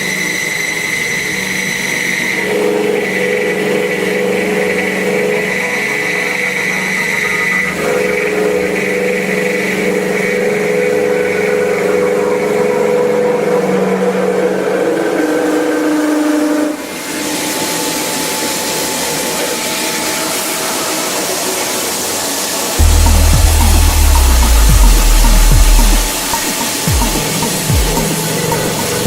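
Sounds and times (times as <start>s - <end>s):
milling machine drive tones: 0.0s - 29.0s
steady hiss: 0.0s - 29.0s.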